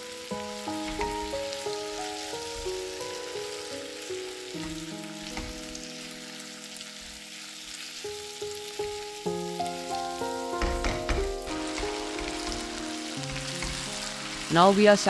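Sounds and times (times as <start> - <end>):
soft background music: 0.0 - 15.0
vegetables sizzling in hot oil: 0.0 - 15.0.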